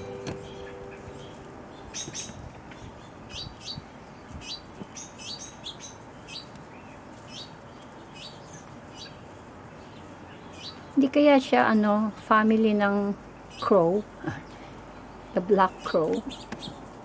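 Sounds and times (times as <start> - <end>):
small birds chirping: 0.0 - 11.1, 12.6 - 17.0.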